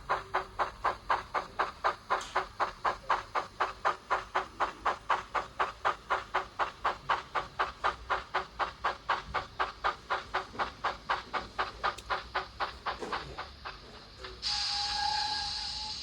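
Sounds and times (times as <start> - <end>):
model steam locomotive chuffs: 0.0 - 16.0.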